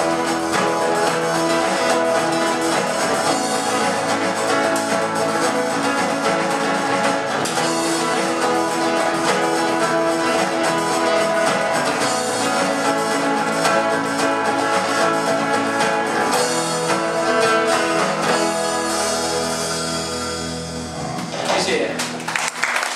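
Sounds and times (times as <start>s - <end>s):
band with strummed guitar: 0.0s - 22.9s.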